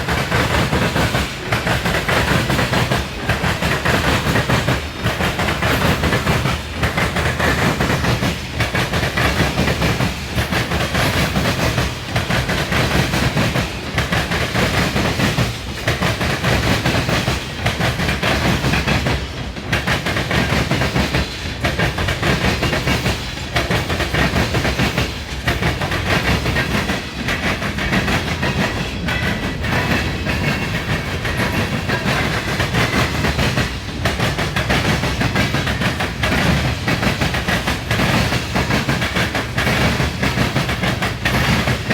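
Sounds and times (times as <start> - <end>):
freight train wheels clattering on rail: 0.0 - 41.9.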